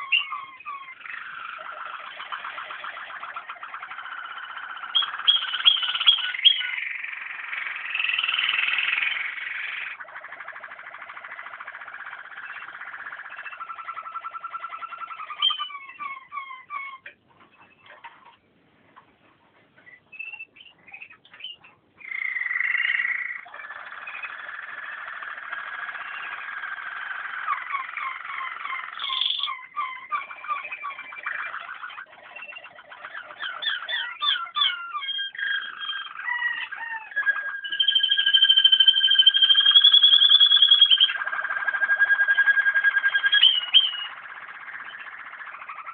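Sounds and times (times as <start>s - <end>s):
canary singing trills and whistles: 0.0s - 18.4s, 19.8s - 45.9s.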